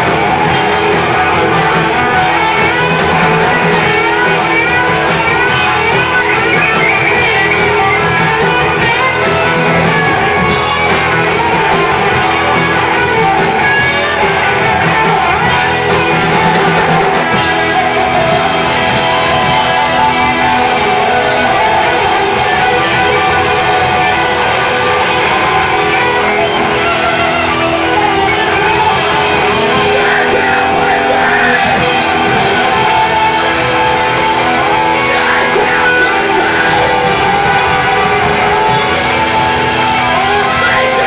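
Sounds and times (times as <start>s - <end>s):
bass: 0.0s - 41.0s
distorted electric guitars: 0.0s - 41.0s
drum kit: 0.0s - 41.0s.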